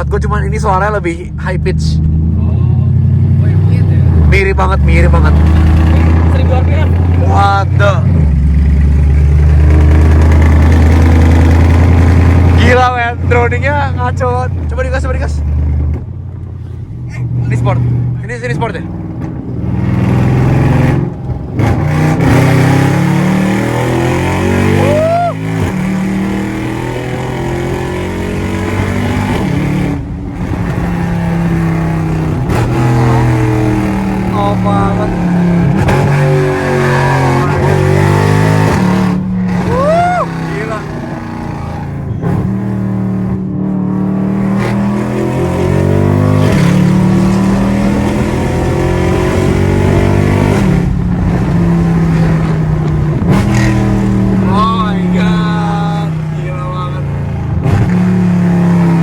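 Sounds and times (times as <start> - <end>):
car exhaust deep drone: 0.0 - 59.0.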